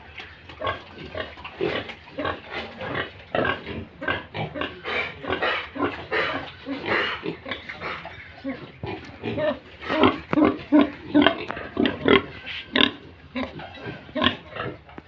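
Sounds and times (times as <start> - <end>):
piglets grunting and squealing: 0.0 - 15.0.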